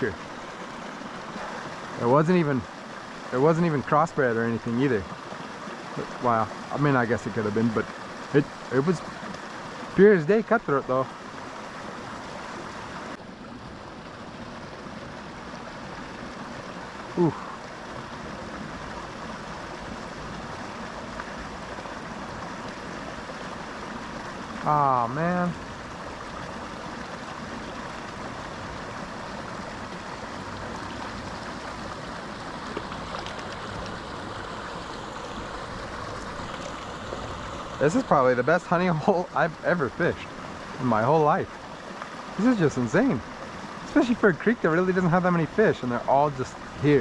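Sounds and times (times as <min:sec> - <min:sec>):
creek flowing: 0:00.0 - 0:47.0.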